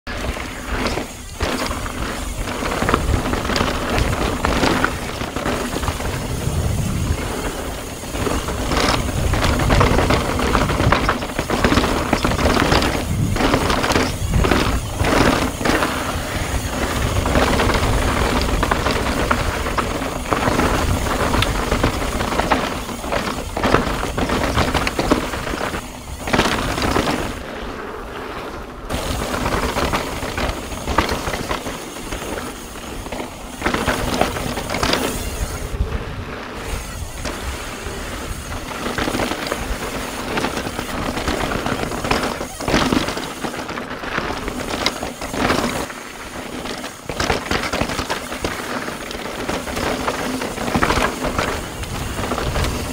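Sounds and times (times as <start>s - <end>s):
bike clattering over rocks: 0.1s - 27.5s, 28.9s - 52.9s
wind buffeting microphone: 0.1s - 52.9s.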